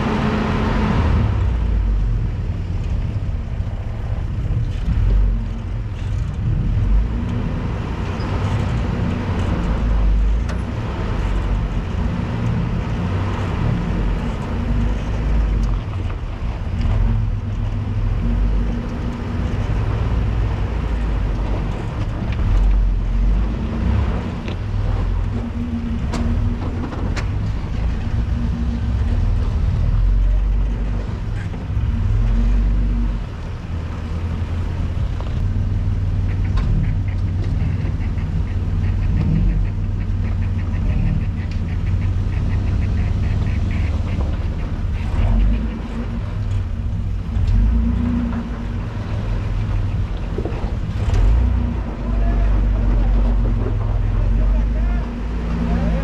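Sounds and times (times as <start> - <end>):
truck engine running at low revs: 0.0 - 56.0.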